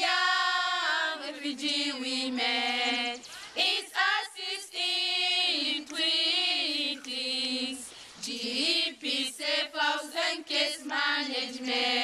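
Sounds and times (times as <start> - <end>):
women singing a cappella: 0.0 - 12.0.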